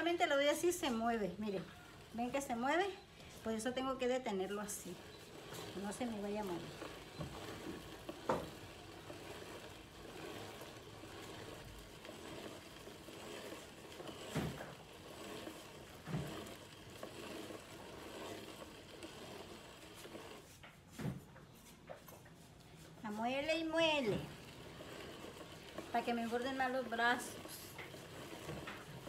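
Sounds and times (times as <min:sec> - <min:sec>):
hand-cranked corn mill grinding: 0:00.0 - 0:29.0.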